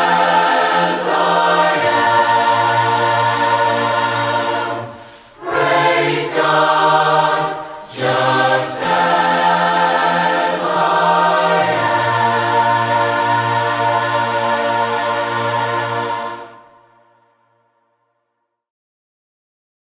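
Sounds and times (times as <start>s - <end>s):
choir singing a hymn: 0.0s - 17.4s.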